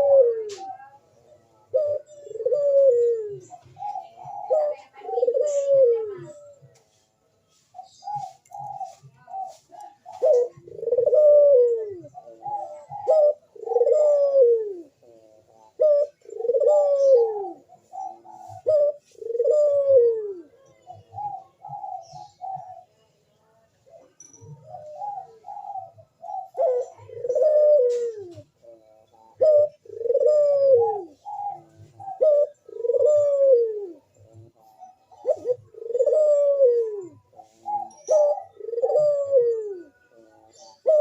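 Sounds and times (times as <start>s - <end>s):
dove cooing: 0.0s - 41.0s.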